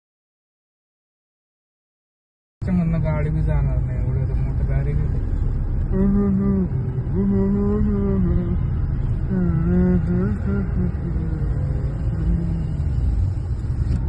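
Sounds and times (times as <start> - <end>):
road vehicle rumble: 2.6 - 14.0.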